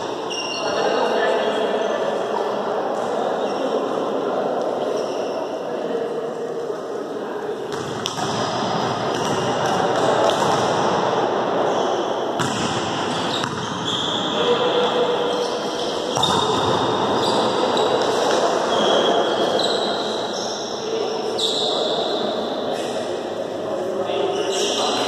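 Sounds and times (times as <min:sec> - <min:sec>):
sports hall noise: 0:00.0 - 0:25.0.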